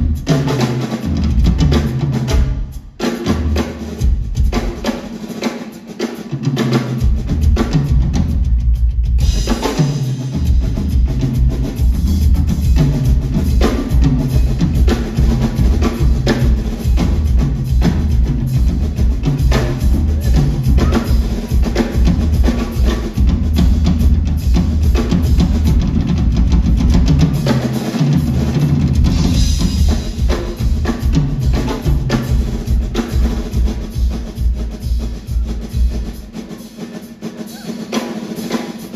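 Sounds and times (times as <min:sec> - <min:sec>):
live drum kit playing: 0:00.0 - 0:38.9.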